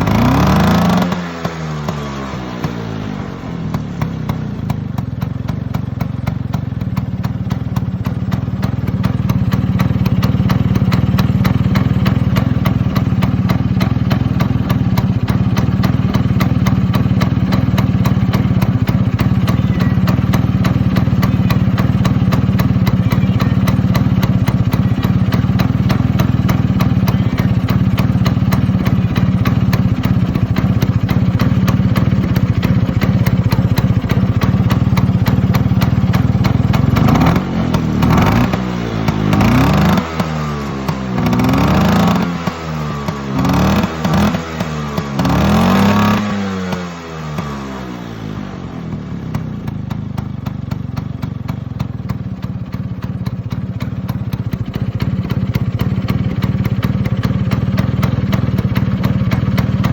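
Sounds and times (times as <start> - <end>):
scooter engine idling: 0.0 - 59.9.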